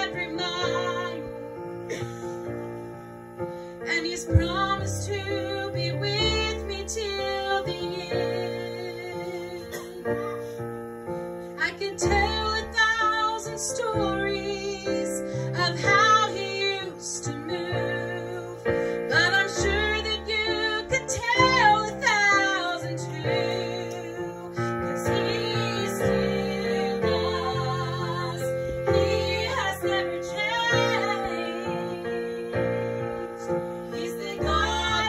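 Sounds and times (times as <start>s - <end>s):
woman singing with vibrato: 0.0s - 1.5s, 3.9s - 10.4s, 11.6s - 35.0s
electric keyboard accompaniment: 0.0s - 35.0s.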